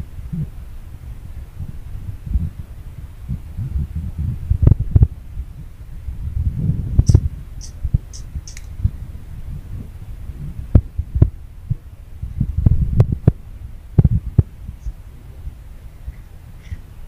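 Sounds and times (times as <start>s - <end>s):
microphone buffeting rumble: 0.0s - 17.0s.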